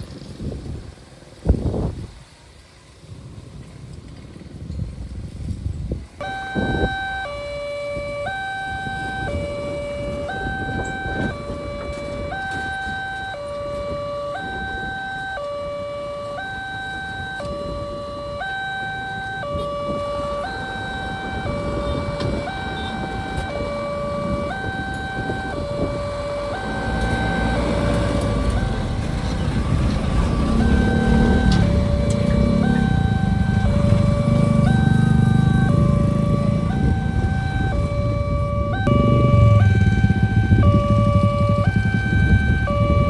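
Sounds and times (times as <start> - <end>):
level crossing alarm two-tone warning: 6.2 - 43.0.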